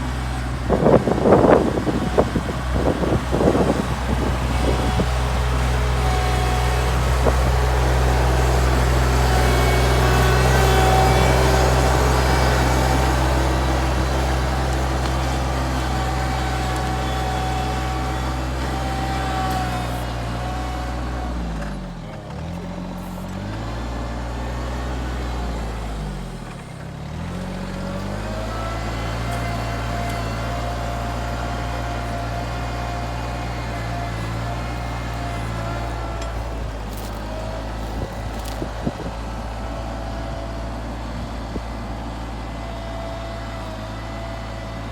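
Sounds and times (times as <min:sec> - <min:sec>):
large engine running: 0:00.0 - 0:44.9.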